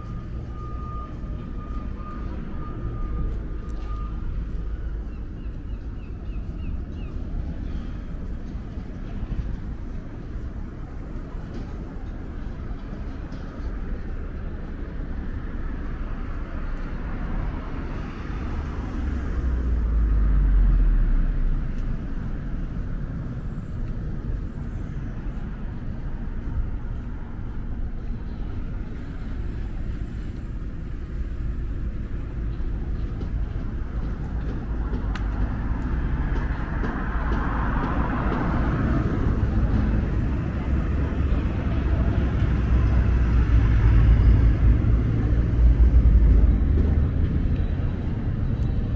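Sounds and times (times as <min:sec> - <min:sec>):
road traffic rumble: 0:00.0 - 0:48.9
vehicle tyre and engine noise: 0:00.0 - 0:48.9.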